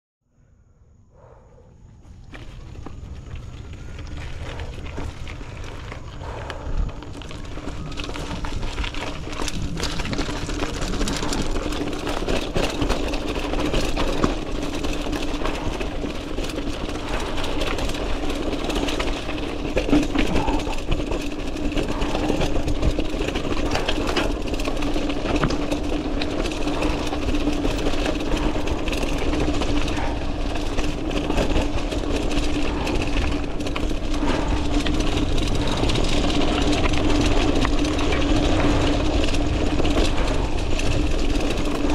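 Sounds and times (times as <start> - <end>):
mountain bike rolling on dirt: 1.2 - 41.9
bike clicks and rattles over bumps: 1.9 - 41.9.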